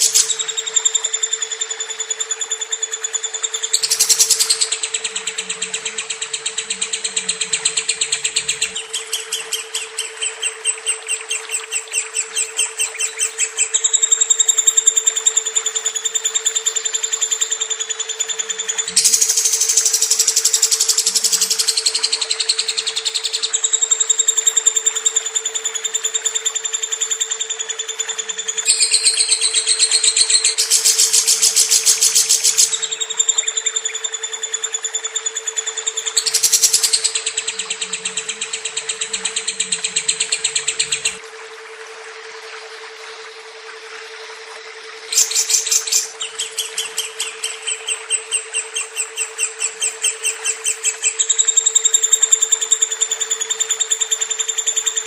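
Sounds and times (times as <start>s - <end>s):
lovebird chattering: 0.0s - 41.2s, 45.1s - 52.8s
steady low hum: 0.0s - 55.0s.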